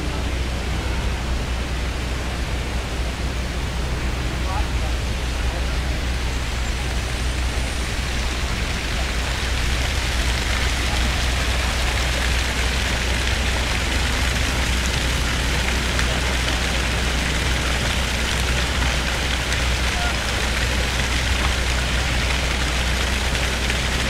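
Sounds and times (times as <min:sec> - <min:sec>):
low traffic rumble: 0:00.0 - 0:24.0
rain-like hiss: 0:00.0 - 0:24.0.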